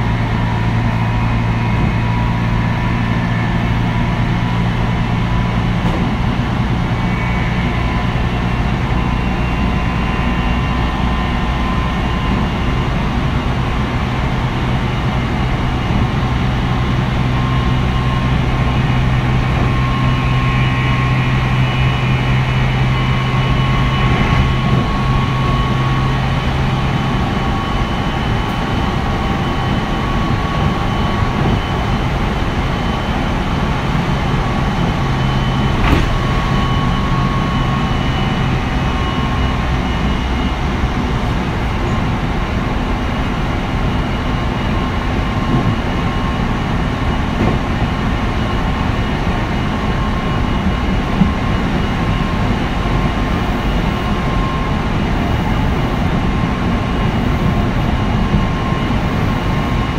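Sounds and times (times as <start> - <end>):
electric train inverter tones: 0.0 - 59.9
low hum: 0.0 - 59.9
wheels rumbling on rails: 0.0 - 59.9.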